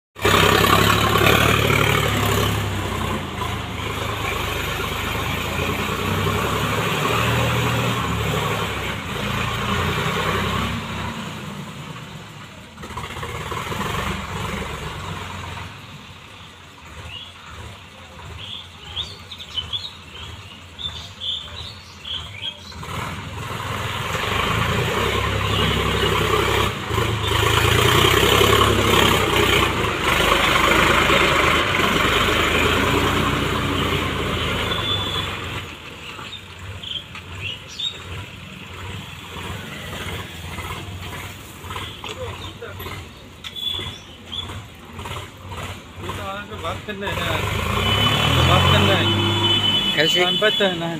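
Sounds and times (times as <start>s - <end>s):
tractor diesel engine under load: 0.1s - 50.9s.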